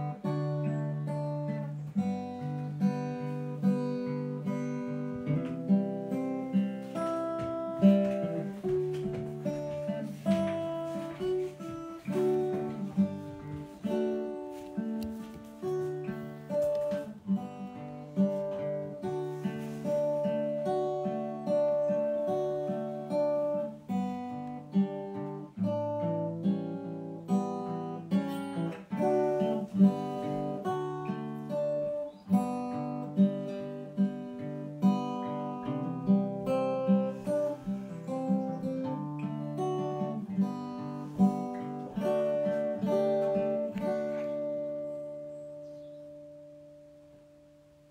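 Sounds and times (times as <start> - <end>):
acoustic guitar plucked chords: 0.0 - 47.9.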